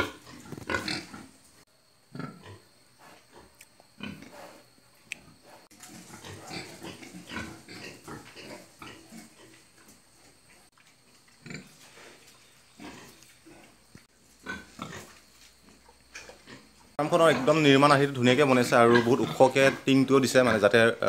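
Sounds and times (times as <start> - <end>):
pigs grunting: 0.0 - 1.4, 2.1 - 4.7, 5.3 - 10.7, 11.4 - 21.0.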